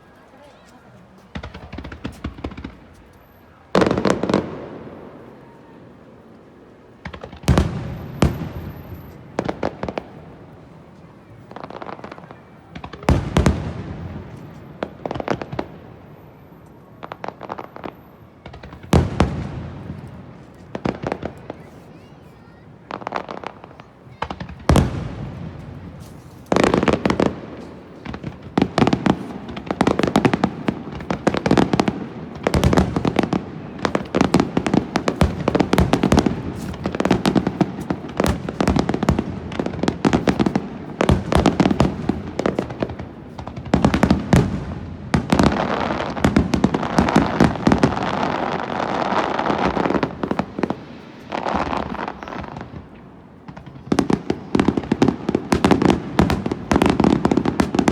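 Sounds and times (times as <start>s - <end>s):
dense firework crackling: 0.0s - 57.9s.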